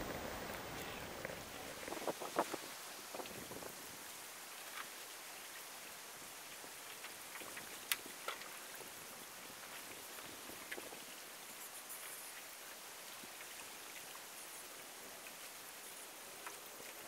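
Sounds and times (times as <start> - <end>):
small waves lapping on shore: 0.0 - 17.0
wind hiss: 0.0 - 17.0.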